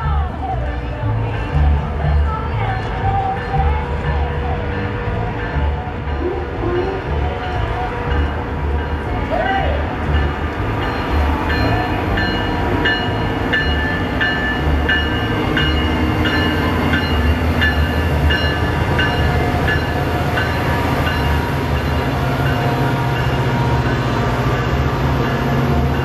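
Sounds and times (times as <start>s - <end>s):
diesel locomotive engines rumbling: 0.0s - 26.0s
locomotive bell ringing: 0.0s - 26.0s.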